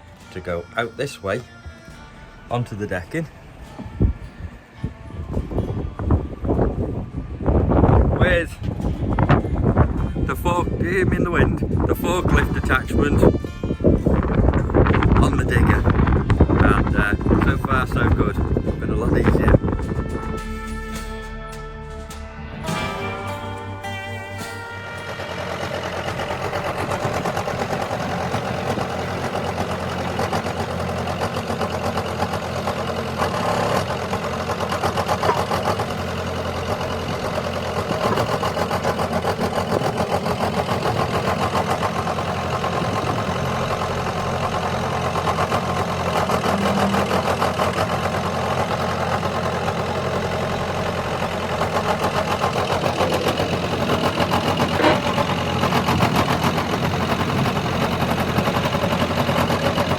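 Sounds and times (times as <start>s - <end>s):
digger diesel engine running: 0.0s - 59.9s.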